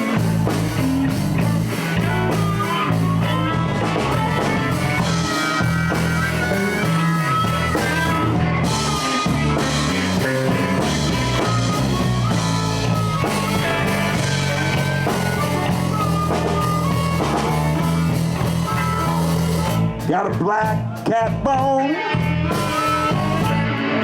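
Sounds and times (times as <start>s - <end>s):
bass riff: 0.0s - 24.0s
drum kit: 0.0s - 24.0s
electric guitar lines: 0.0s - 24.0s.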